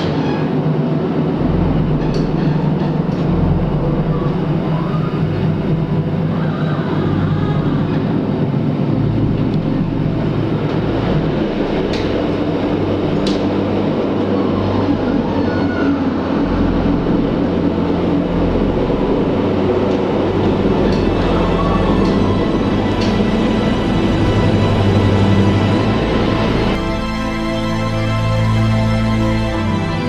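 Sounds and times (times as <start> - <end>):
train running with low hum: 0.0 - 30.0.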